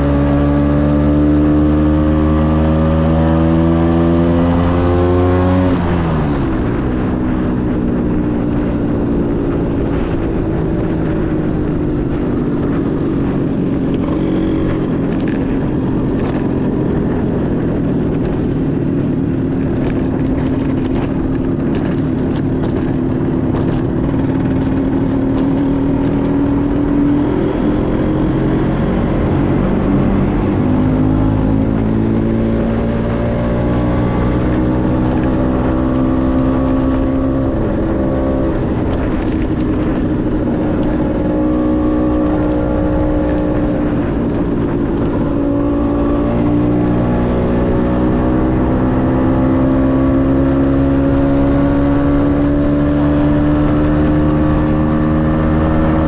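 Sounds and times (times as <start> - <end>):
scooter engine accelerating: 0.0 - 56.0
wind and road noise: 0.0 - 56.0.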